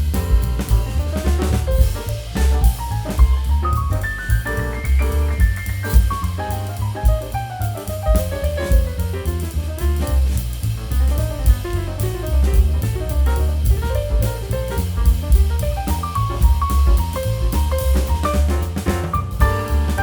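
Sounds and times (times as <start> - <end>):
upbeat jazzy instrumental music: 0.0 - 20.0.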